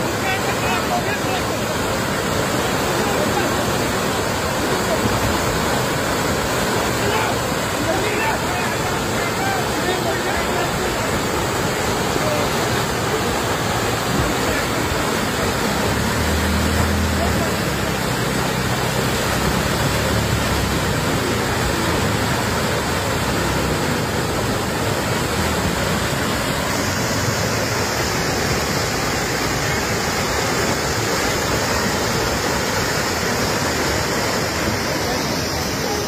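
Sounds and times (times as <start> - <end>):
muddy water rushing: 0.0 - 36.0.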